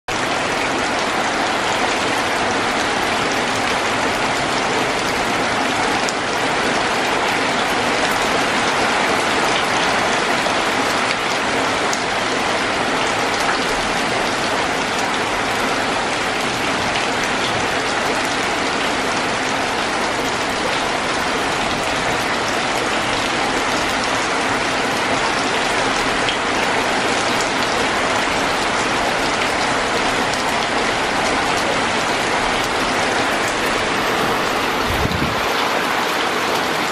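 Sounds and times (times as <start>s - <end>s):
heavy rain on trees: 0.1s - 36.9s
rain on a metal roof: 0.1s - 36.9s.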